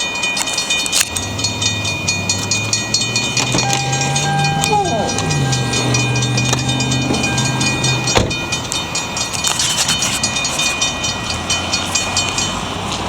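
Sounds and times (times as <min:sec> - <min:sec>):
crossing bells ringing: 0:00.0 - 0:13.0
vehicle engine hum: 0:00.8 - 0:13.0.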